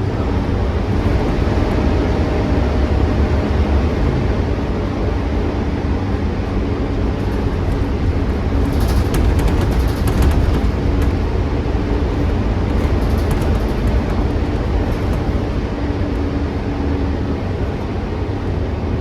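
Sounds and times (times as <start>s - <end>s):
bus diesel engine rumble: 0.0s - 19.0s
rattles inside bus: 0.0s - 19.0s.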